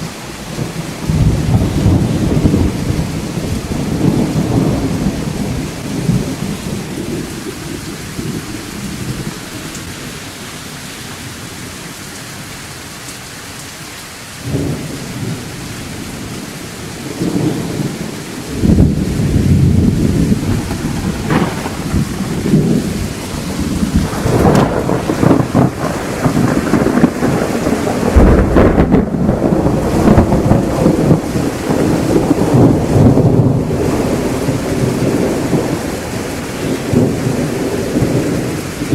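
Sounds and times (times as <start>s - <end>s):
rolling thunder: 0.0s - 9.6s, 14.4s - 38.9s
steady rain: 0.0s - 38.9s.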